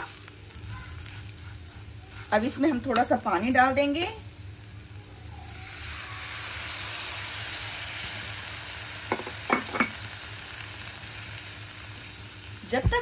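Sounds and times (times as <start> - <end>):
onions sizzling in a hot pan: 0.0 - 13.0.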